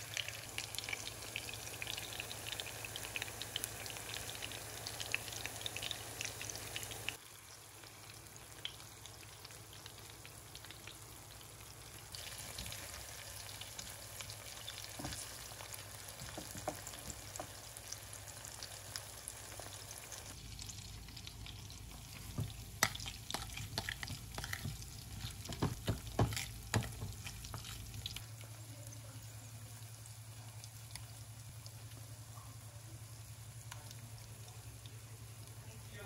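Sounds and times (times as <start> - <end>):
patties sizzling in oil: 0.0 - 36.0.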